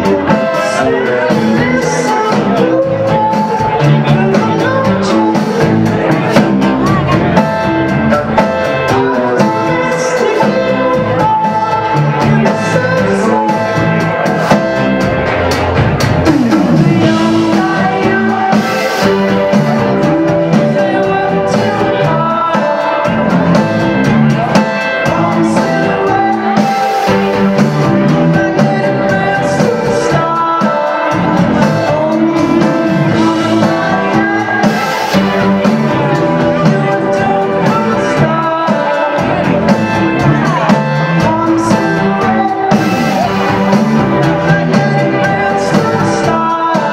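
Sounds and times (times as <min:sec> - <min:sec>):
drum kit: 0:00.0 - 0:46.9
guitar: 0:00.0 - 0:46.9
person singing: 0:00.0 - 0:46.9.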